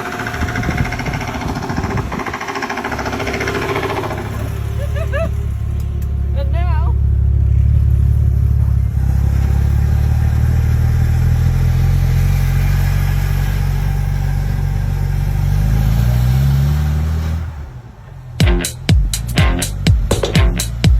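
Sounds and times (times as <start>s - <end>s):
car engine running: 0.0s - 15.8s, 17.9s - 20.9s.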